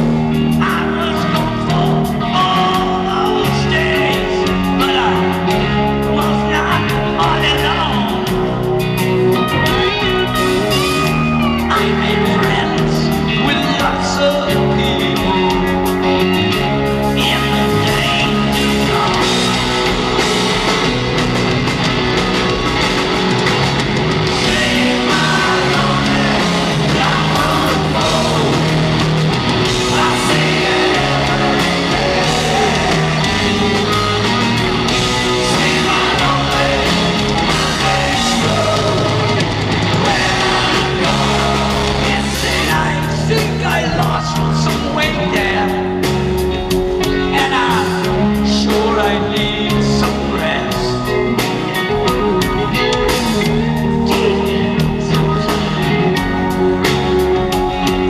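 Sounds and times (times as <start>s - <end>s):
man singing: 0.0s - 8.7s, 11.4s - 20.8s, 24.2s - 46.4s, 47.1s - 58.0s
live rock band playing: 0.0s - 58.0s.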